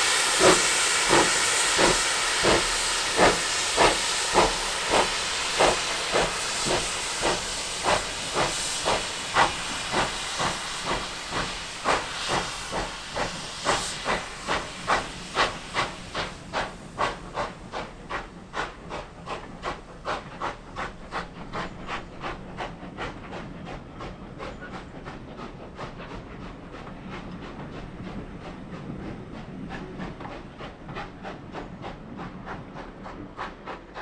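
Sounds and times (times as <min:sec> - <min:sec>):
steady hiss of steam: 0:00.0 - 0:34.0
steam locomotive exhaust chuffing: 0:00.0 - 0:34.0.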